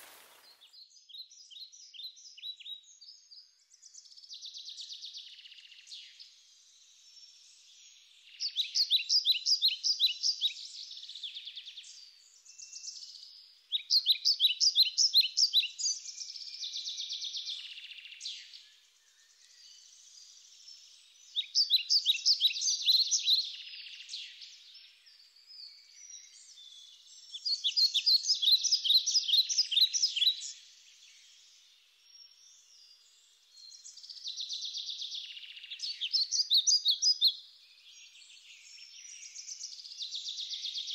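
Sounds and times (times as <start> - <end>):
songbird singing rapid notes: 7.2 - 40.9.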